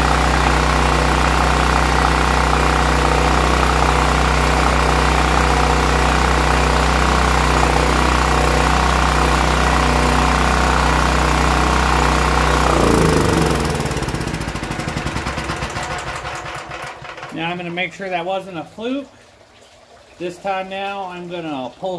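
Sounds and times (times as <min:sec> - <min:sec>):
generator engine running: 0:00.0 - 0:17.9.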